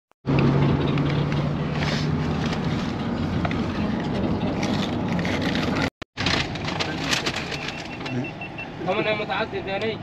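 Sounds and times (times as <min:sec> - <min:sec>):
car engine drone: 0:00.2 - 0:10.0.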